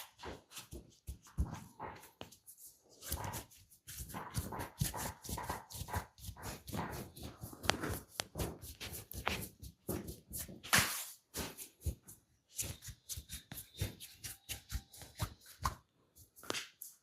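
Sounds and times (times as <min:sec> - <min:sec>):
hands rubbing and slapping skin: 0:02.2 - 0:17.0.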